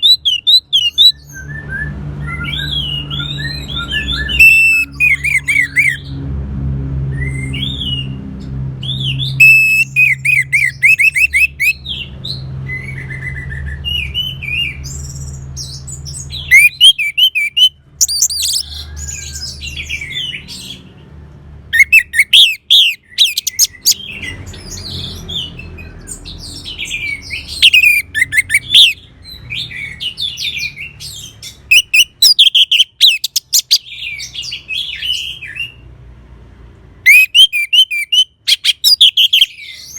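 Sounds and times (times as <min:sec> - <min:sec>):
thrush singing whistles and trills: 0:00.0 - 0:06.1, 0:07.2 - 0:08.2, 0:08.8 - 0:20.9, 0:21.8 - 0:35.9, 0:37.0 - 0:39.9.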